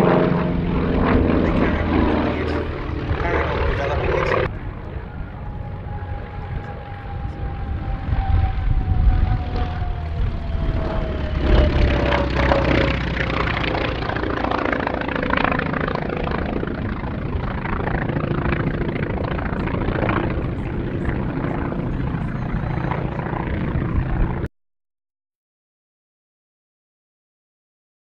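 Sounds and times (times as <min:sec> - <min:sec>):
propeller plane engine passing: 0:00.0 - 0:24.5.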